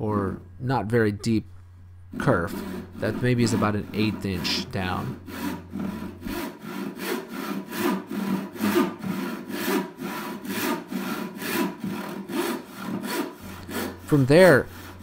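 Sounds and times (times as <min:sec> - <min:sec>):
handsaw sawing wood: 0:02.1 - 0:15.0.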